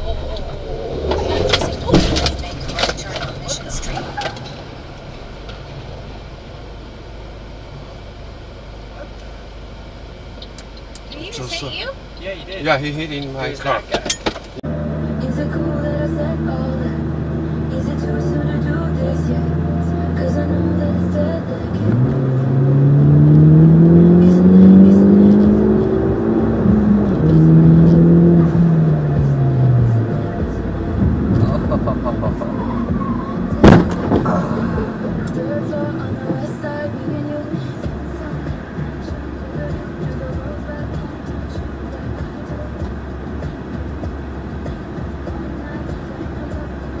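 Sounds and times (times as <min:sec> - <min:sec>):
low rumble inside car: 0:00.0 - 0:47.0
traffic passing: 0:00.0 - 0:47.0
vehicle engine accelerating: 0:00.0 - 0:47.0.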